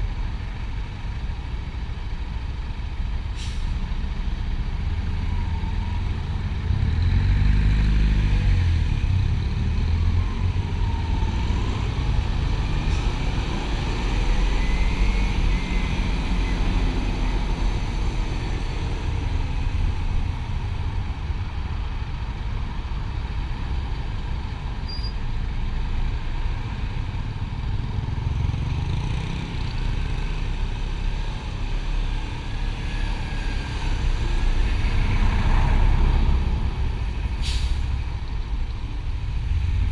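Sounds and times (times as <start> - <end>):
road noise rumble: 0.0 - 39.9.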